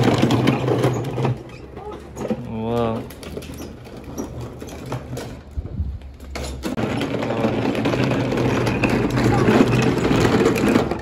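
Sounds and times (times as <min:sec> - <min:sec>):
plastic wheels rattling on asphalt: 0:00.0 - 0:11.0.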